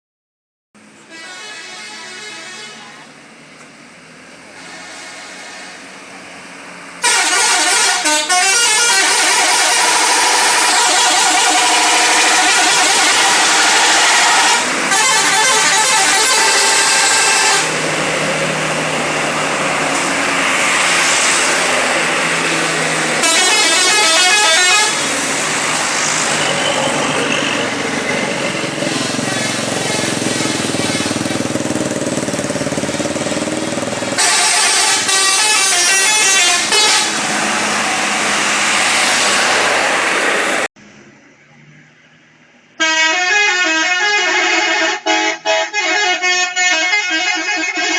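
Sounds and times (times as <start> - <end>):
musical bus air horns: 0.8 - 3.2, 4.5 - 40.7, 42.8 - 47.9.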